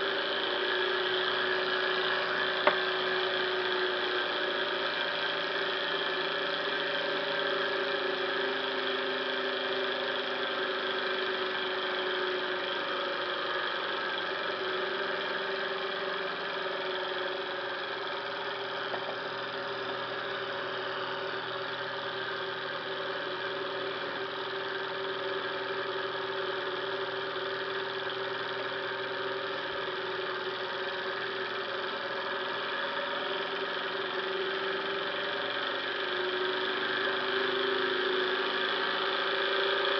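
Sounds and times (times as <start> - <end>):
stirling engine mechanical whir: 0.0 - 39.9.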